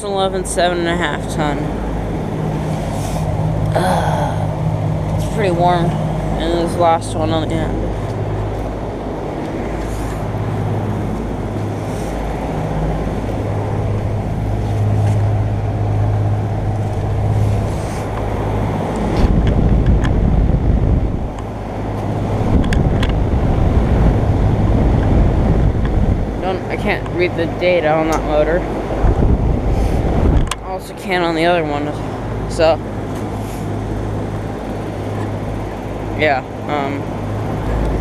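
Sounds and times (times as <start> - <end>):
compressor hum: 0.0 - 38.0
fans rushing air: 0.0 - 38.0.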